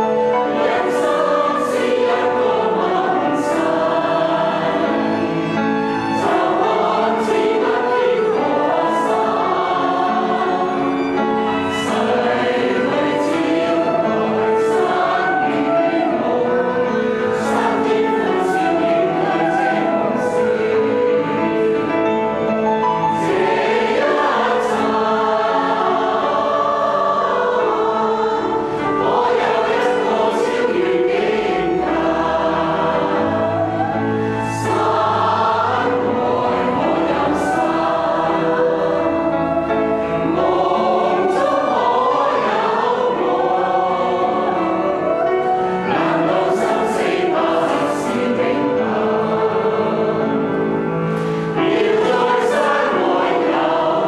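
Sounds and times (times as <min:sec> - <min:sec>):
grand piano: 0:00.0 - 0:54.0
mixed choir singing: 0:00.0 - 0:54.0.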